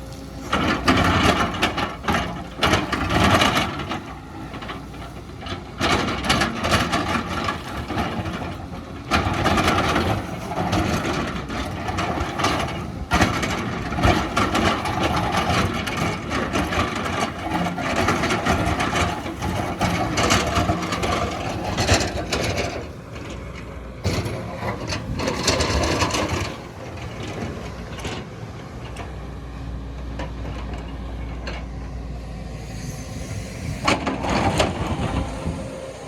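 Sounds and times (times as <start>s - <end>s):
excavator diesel engine: 0.0s - 36.0s
excavator digging scraping: 0.0s - 36.0s.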